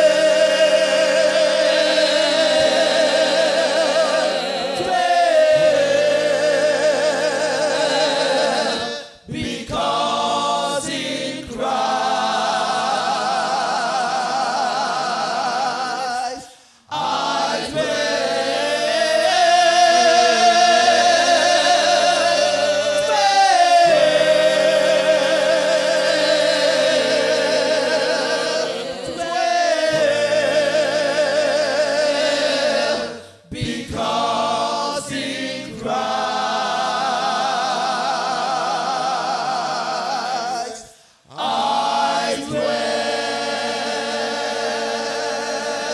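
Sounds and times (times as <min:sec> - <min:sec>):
gospel choir singing: 0:00.0 - 0:45.9.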